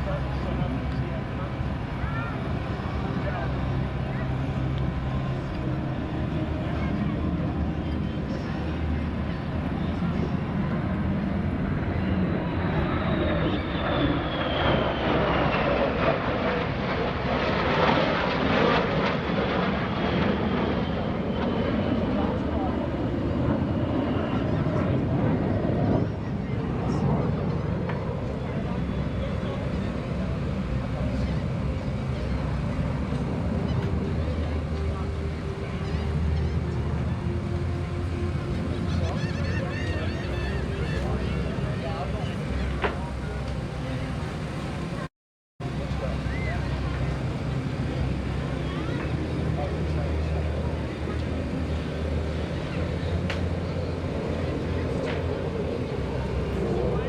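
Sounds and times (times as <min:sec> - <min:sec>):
jet engine roar with whine: 0:00.0 - 0:57.0.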